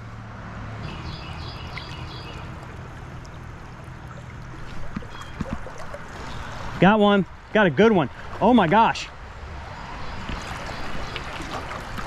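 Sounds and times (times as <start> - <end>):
river water rushing: 0.2 - 12.0.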